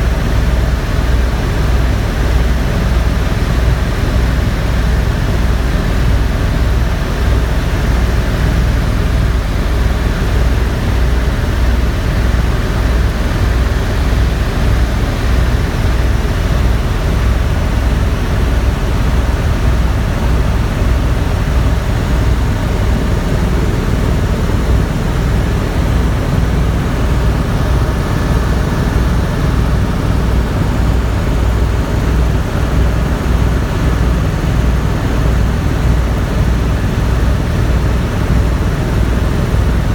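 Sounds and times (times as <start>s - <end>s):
helicopter turbine and rotor noise: 0.0s - 39.9s
rotor blades beating: 5.7s - 39.9s.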